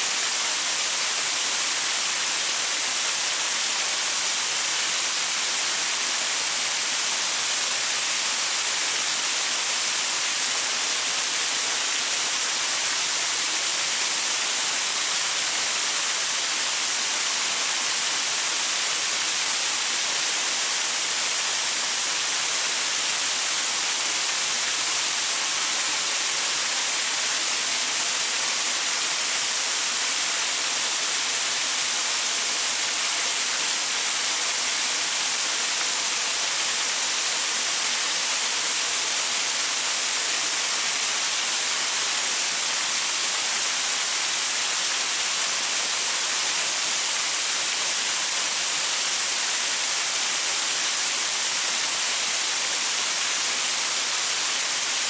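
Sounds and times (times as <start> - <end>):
waterfall splashing onto rocks: 0.0 - 55.0.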